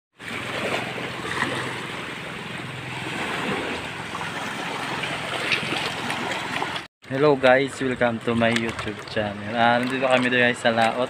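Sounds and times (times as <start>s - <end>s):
water splashing against boat: 0.2s - 6.9s, 7.8s - 11.0s.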